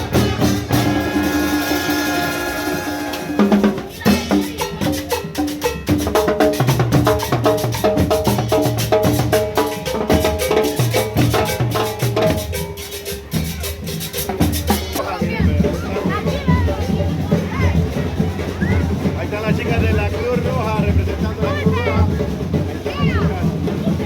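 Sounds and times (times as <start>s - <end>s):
marching band drums: 0.0s - 24.0s
marching band melody: 0.0s - 24.0s.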